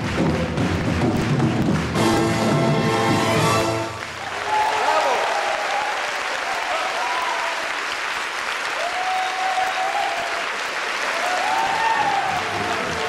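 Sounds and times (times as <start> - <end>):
audience applauding: 0.0 - 13.0
crowd cheering: 0.0 - 13.0.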